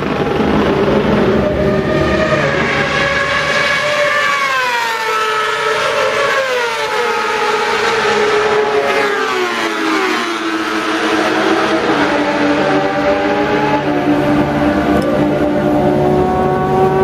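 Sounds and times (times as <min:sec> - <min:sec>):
racing engine passing by: 0:00.1 - 0:17.0.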